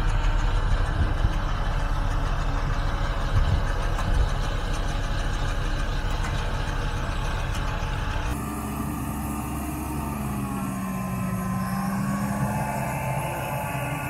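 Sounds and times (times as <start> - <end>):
pickup engine running: 0.0 - 14.0.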